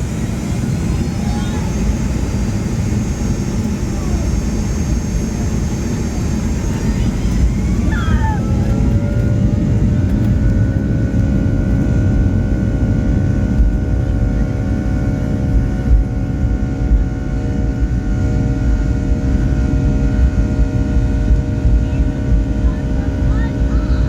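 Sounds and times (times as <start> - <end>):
jet engine rumble and whine in cabin: 0.0 - 24.0.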